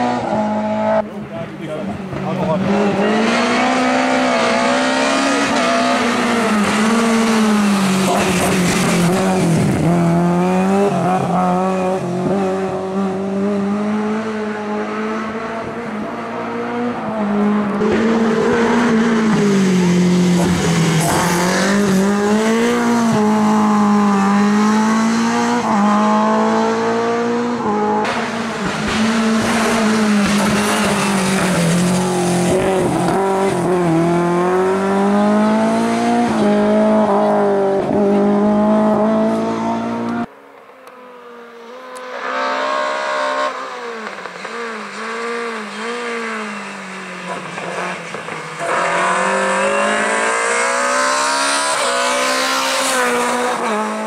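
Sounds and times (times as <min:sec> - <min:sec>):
rally car engine revving: 0:00.0 - 0:40.3, 0:41.1 - 0:54.0.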